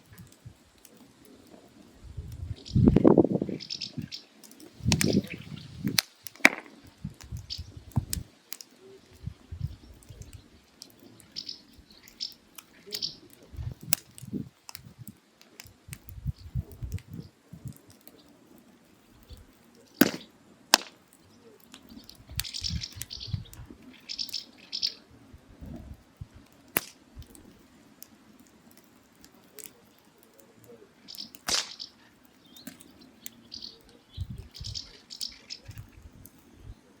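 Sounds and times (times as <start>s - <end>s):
firewood crackling and popping: 0.0s - 37.0s.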